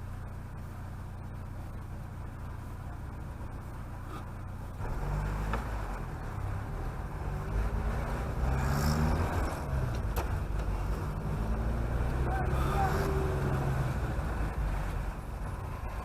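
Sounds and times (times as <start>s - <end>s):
car engine accelerating: 0.0s - 16.0s
road noise inside car: 0.0s - 16.0s.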